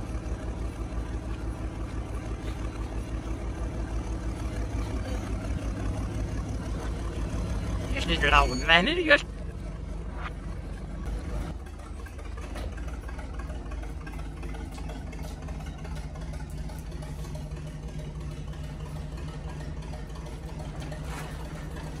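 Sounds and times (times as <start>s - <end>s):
crane machinery droning: 0.0s - 22.0s.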